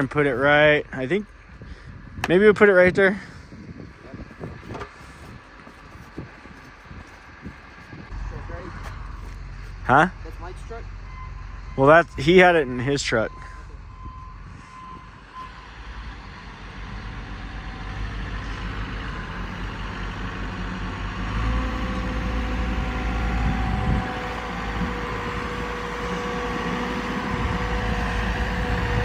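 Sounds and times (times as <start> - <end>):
wheel loader diesel engine running: 0.0 - 29.0.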